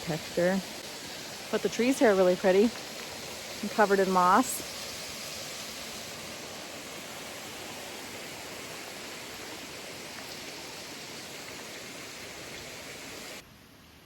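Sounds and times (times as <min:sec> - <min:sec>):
rushing water: 0:00.0 - 0:13.5.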